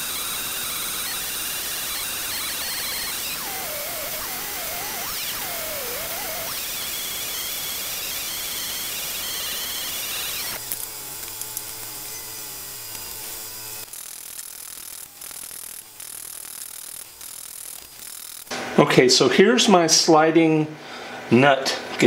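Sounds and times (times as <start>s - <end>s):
bandsaw cutting metal: 0.0s - 18.6s.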